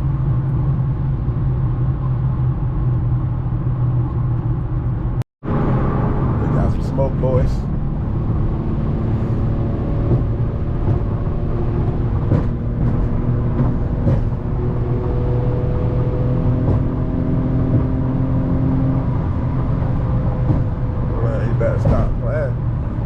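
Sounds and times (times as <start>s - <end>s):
car engine droning at speed: 0.0s - 23.0s.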